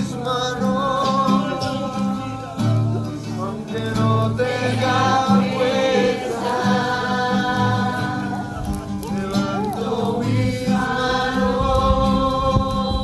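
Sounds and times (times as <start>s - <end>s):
acoustic guitar playing: 0.0s - 13.0s
person singing: 0.0s - 13.0s.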